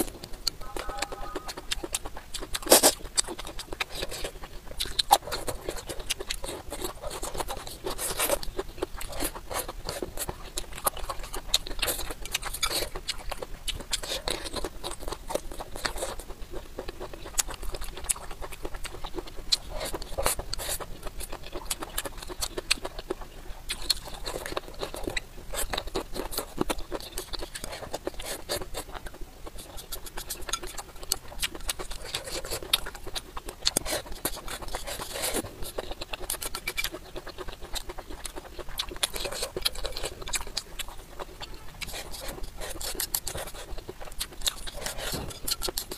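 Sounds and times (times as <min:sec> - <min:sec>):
chewing and mouth smacking: 0:00.0 - 0:45.9.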